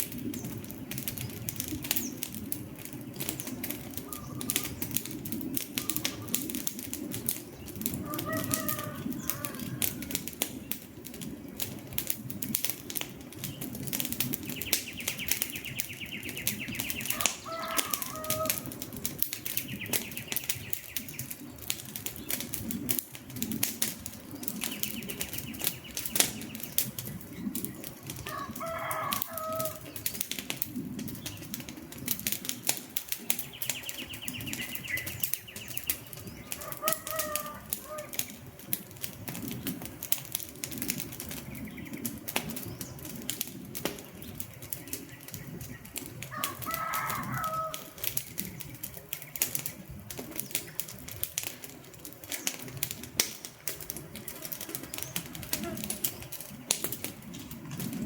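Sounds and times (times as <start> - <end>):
birds calling: 0.0 - 11.7, 12.4 - 58.0
campfire crackling and popping: 0.0 - 58.0
low rumble of burning: 0.0 - 58.0.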